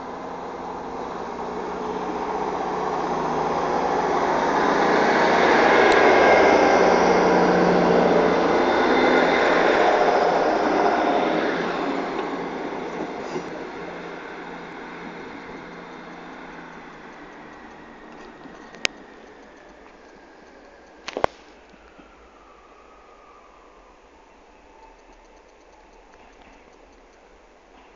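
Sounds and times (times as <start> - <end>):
diesel train passing: 0.0 - 27.9.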